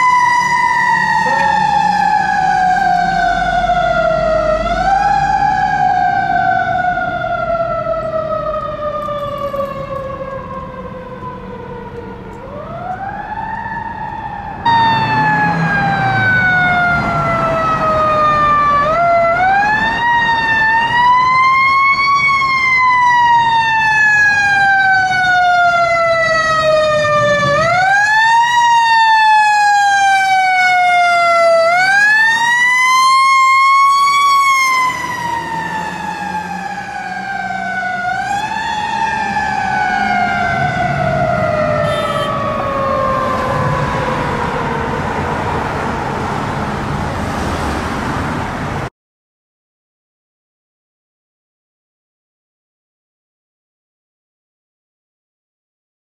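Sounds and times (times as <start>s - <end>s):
fire truck siren wailing: 0.0s - 48.9s.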